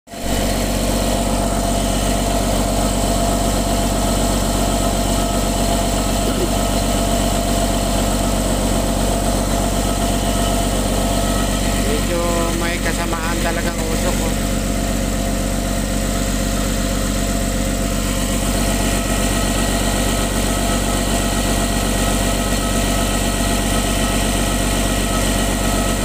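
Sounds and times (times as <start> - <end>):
diesel engine idling: 0.1 - 26.0.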